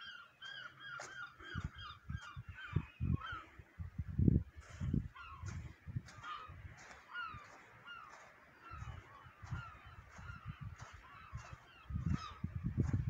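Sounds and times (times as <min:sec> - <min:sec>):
bird honking calls: 0:00.0 - 0:03.6, 0:04.6 - 0:12.4.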